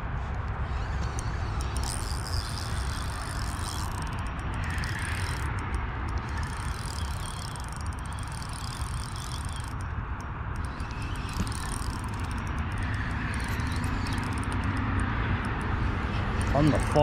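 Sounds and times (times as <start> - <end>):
fishing reel ticking: 0.0 - 17.0.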